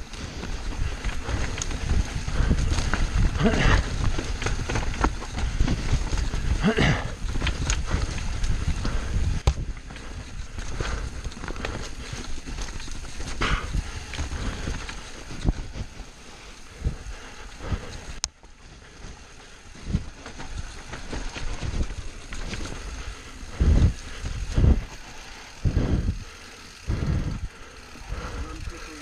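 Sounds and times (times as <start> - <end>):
wind buffeting microphone: 0.0 - 18.2, 19.7 - 28.5
bike rattling: 0.0 - 29.0
tyres rolling over dirt: 0.0 - 29.0.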